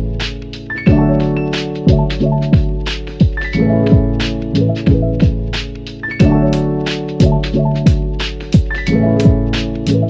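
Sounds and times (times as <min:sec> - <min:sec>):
sustained keyboard chords: 0:00.0 - 0:10.0.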